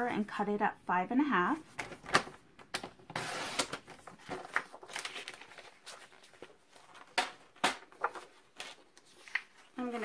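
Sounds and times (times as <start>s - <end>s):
paper handling: 1.7s - 10.0s.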